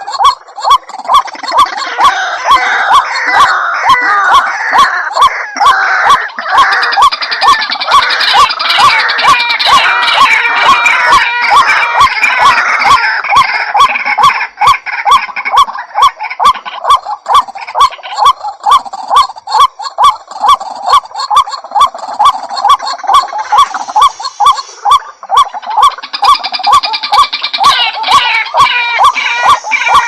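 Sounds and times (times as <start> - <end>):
bird honking calls: 0.0 - 30.0.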